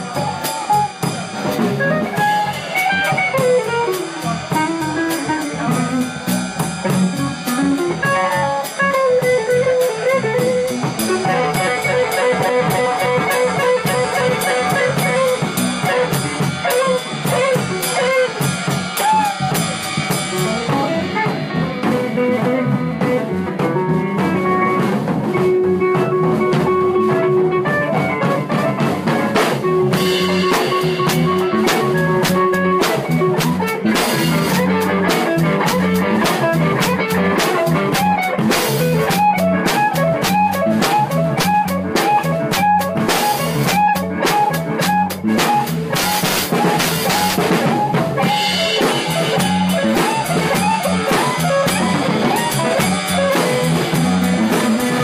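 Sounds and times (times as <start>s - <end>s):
blues guitar lead with bent notes: 0.0s - 55.0s
drum kit: 0.0s - 55.0s.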